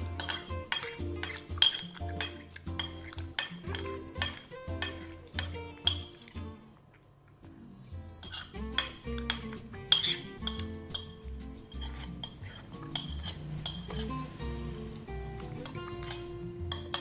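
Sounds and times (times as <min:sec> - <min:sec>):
background music: 0:00.0 - 0:06.8, 0:07.4 - 0:17.0
cutlery clinking on a glass plate: 0:00.2 - 0:06.2, 0:08.2 - 0:17.0.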